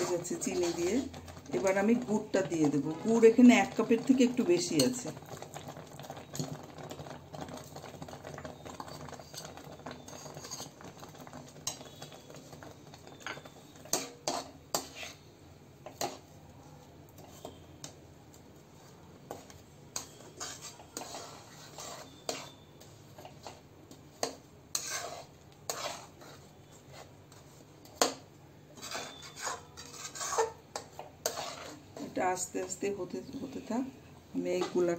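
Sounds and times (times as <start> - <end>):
metal spatula scraping a wok: 0.0 - 5.1, 8.6 - 17.9, 18.9 - 33.8, 34.5 - 34.9.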